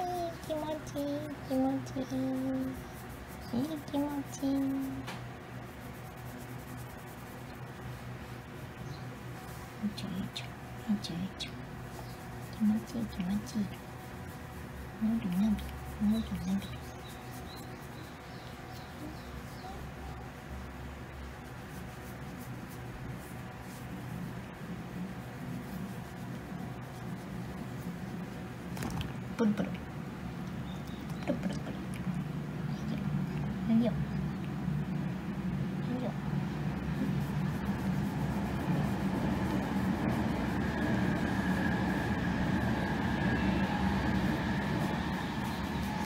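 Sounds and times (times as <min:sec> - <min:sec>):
fingers rubbing cat fur: 0:00.0 - 0:29.6, 0:36.2 - 0:46.0.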